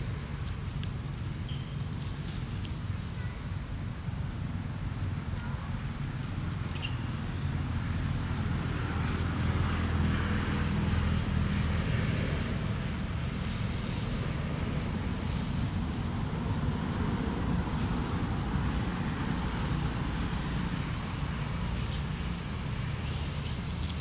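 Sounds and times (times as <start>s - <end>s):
motor vehicle engine rumble: 0.0s - 24.0s.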